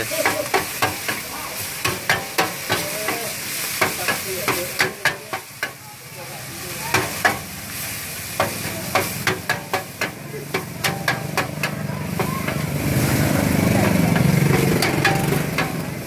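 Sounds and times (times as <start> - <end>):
noodles sizzling: 0.0 - 16.0.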